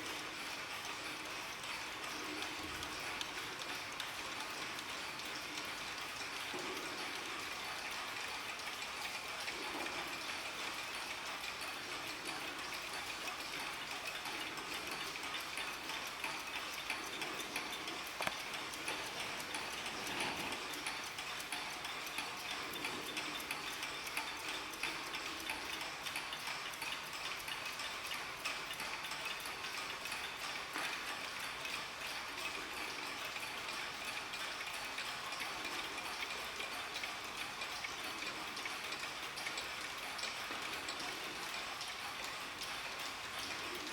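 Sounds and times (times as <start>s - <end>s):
mechanical clocks ticking: 0.0s - 43.9s.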